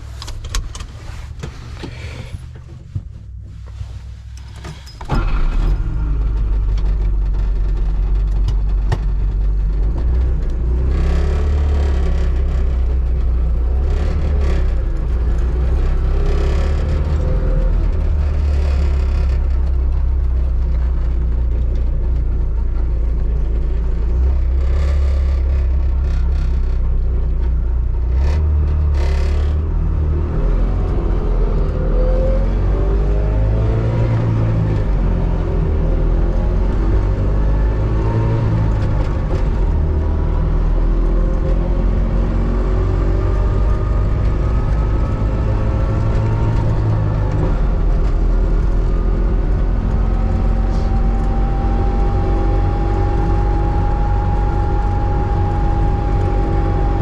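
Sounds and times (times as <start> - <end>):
two-stroke car engine rumbling: 4.3 - 31.6, 33.4 - 57.0.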